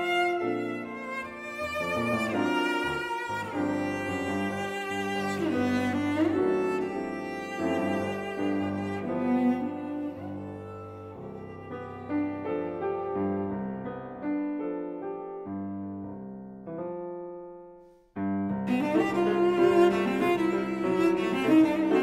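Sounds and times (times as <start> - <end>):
cello: 0.0 - 16.9, 18.2 - 22.0
piano chords: 0.0 - 22.0.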